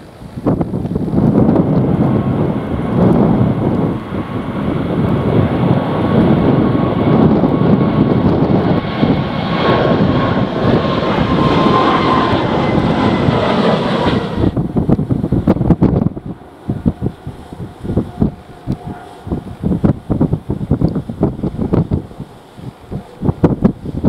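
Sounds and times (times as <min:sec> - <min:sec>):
jet engines whining: 0:00.0 - 0:24.0
wind buffeting microphone: 0:00.0 - 0:24.0.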